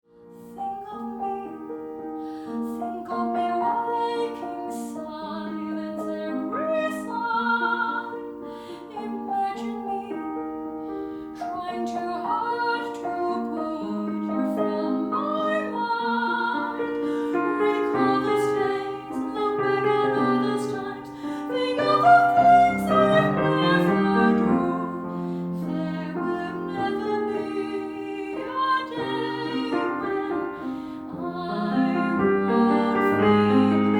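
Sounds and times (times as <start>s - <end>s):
piano accompaniment: 0.0s - 33.9s
soprano singing with vibrato: 0.4s - 33.9s.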